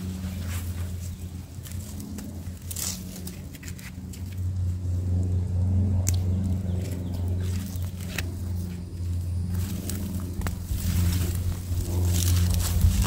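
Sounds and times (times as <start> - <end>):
gloved hands rustling in soil: 0.0 - 4.6, 6.4 - 13.0
low motor hum: 0.0 - 13.0.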